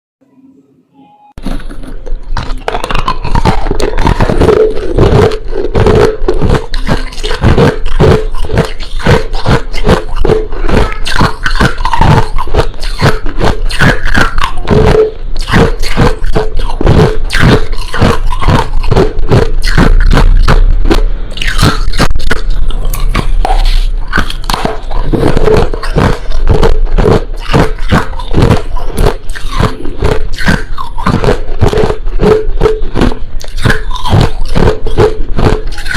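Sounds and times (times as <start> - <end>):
crunching ice being chewed: 1.4 - 35.9.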